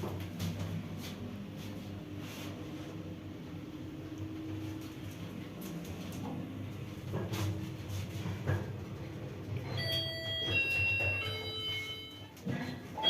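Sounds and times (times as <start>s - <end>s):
elevator humming: 0.0s - 13.0s.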